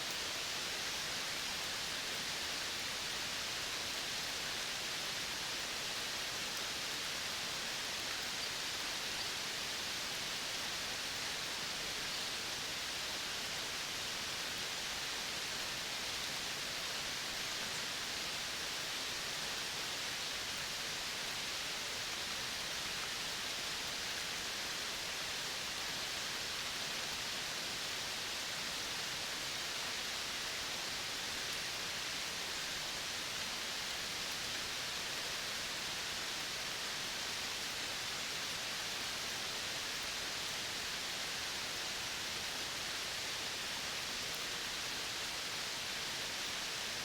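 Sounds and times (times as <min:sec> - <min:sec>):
outdoor ambient hiss: 0:00.0 - 0:47.0.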